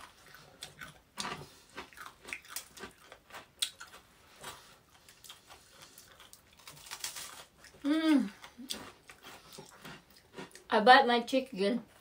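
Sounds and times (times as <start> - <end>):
person chewing food: 0.0 - 10.7.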